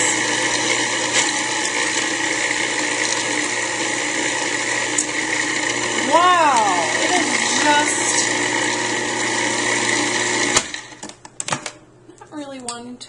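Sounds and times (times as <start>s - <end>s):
food processor motor running: 0.0s - 11.0s.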